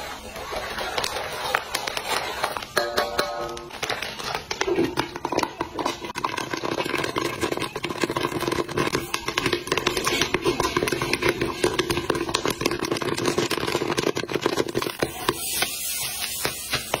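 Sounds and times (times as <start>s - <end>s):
popcorn popping in a wok: 0.0s - 17.0s.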